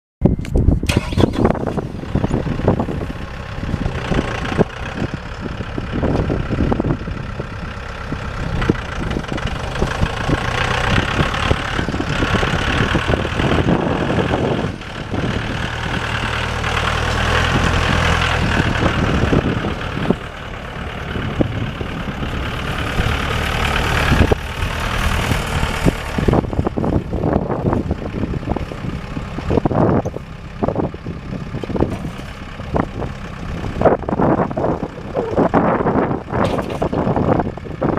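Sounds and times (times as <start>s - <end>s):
tractor diesel engine running: 0.2s - 37.9s.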